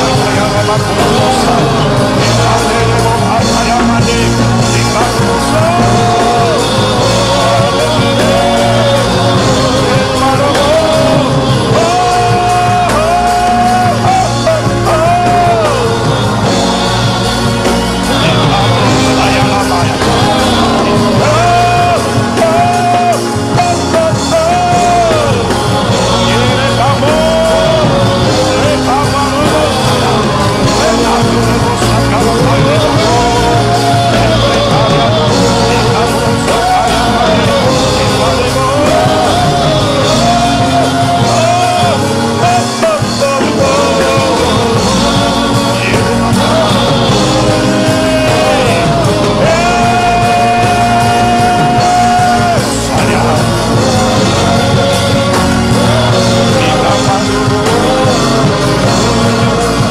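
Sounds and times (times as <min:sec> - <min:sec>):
band backing: 0:00.0 - 0:59.9
slow sung melody: 0:00.0 - 0:59.9.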